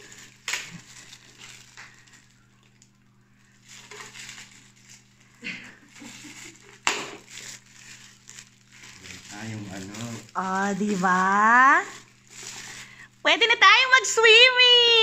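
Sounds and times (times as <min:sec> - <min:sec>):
foil gift wrap crinkling and tearing: 0:00.0 - 0:15.0.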